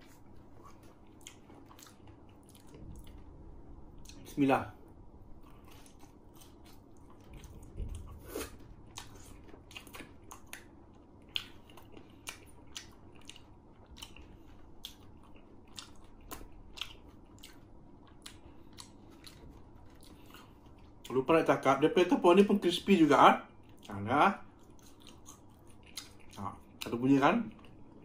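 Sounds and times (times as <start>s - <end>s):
chewing crispy fried food: 0.0s - 21.8s, 23.5s - 28.0s.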